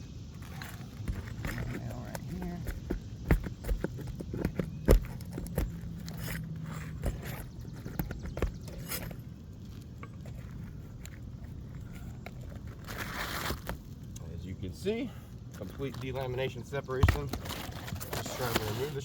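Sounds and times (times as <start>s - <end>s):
shingles knocking and crunching: 0.3s - 14.0s, 15.5s - 19.0s
tools scraping shingles: 0.3s - 14.0s, 15.5s - 19.0s.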